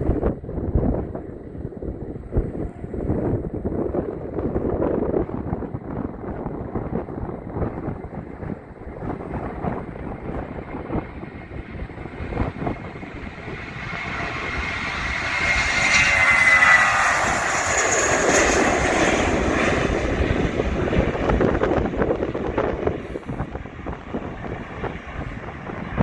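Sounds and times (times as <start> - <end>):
jet engines passing by: 0.0 - 26.0.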